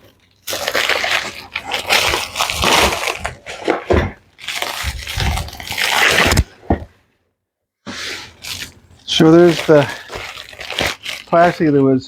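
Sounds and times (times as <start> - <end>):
plastic wrapping crinkling and tearing: 0.0 - 6.7, 8.1 - 12.0.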